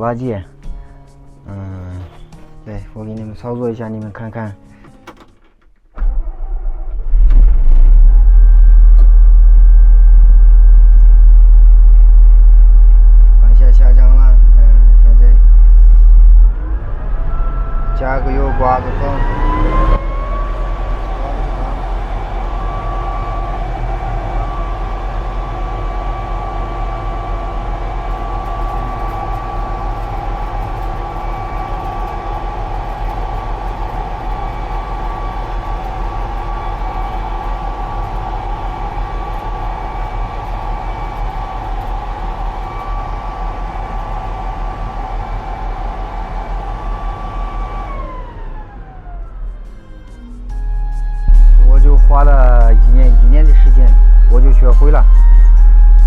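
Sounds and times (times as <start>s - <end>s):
diesel engine running: 6.0s - 56.0s
steady whine: 6.0s - 56.0s.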